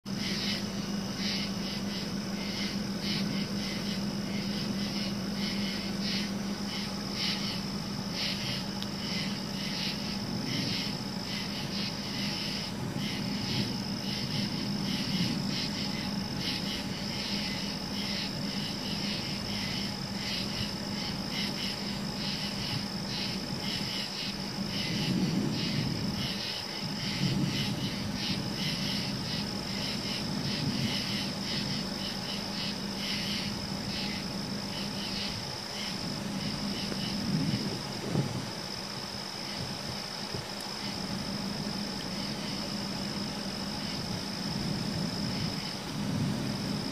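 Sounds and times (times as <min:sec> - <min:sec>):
crickets and katydids chirring: 0:00.0 - 0:46.9.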